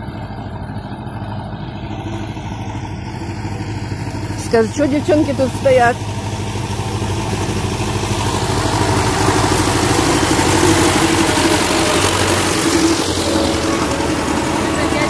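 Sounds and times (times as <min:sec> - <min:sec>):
tractor diesel engine driving past: 0:00.0 - 0:15.0.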